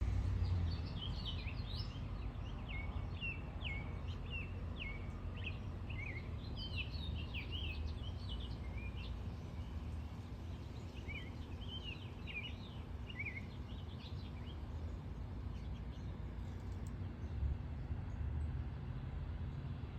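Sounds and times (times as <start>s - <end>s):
low background rumble: 0.0s - 19.9s
small birds chirping: 0.4s - 18.2s.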